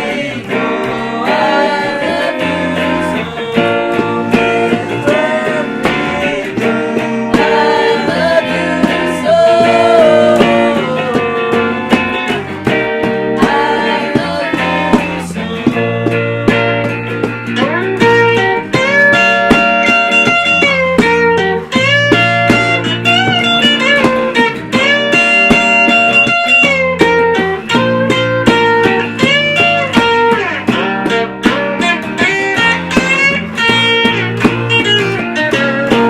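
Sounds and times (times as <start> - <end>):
guitar lead with bent notes: 0.0 - 36.0
live band playing: 0.0 - 36.0.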